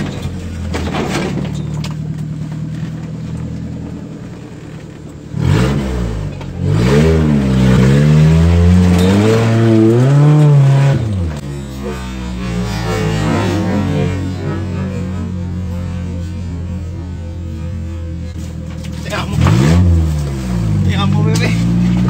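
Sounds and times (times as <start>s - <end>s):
engine idling and revving: 0.0s - 22.0s.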